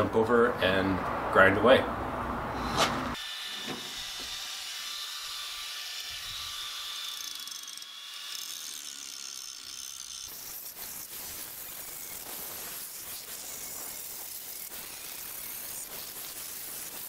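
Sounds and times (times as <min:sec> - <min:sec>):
angle grinder grinding steel: 0:02.6 - 0:17.0.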